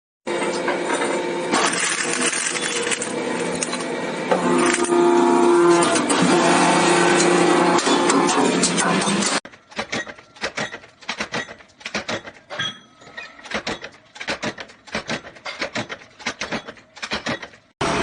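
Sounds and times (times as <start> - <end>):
machine clacking and scraping: 0.3 - 17.7.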